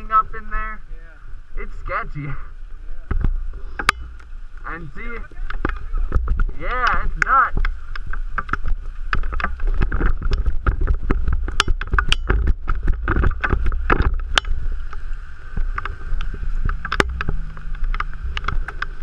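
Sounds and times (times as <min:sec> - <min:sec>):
storm wind on microphone: 0:00.0 - 0:19.0.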